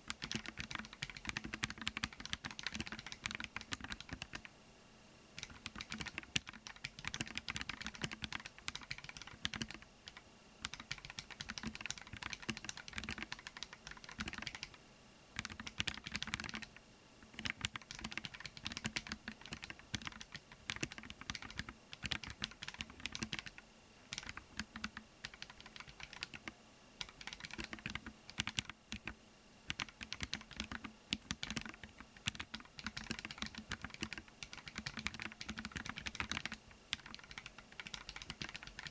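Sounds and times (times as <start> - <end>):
keyboard typing clicks: 0.1 - 4.5, 5.4 - 14.8, 15.4 - 38.9.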